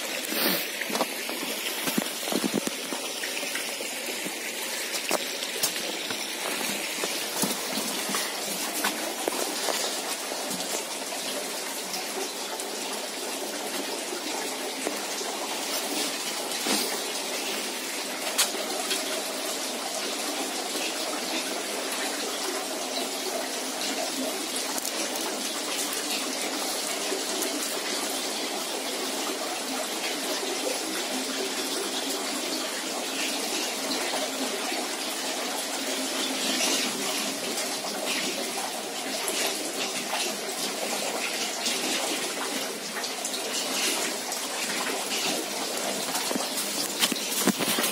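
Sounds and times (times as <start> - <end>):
running water: 0.0 - 47.9.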